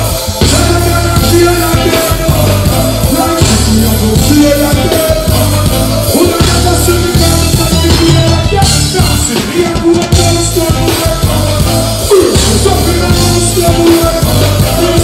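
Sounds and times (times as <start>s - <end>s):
heavy bass line: 0.0s - 15.0s
live reggae band playing: 0.0s - 15.0s.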